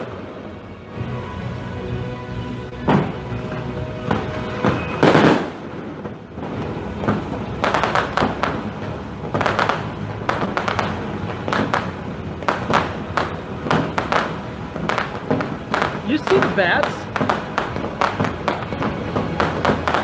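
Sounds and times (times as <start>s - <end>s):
fireworks popping and banging: 0.0s - 1.1s, 2.7s - 20.0s.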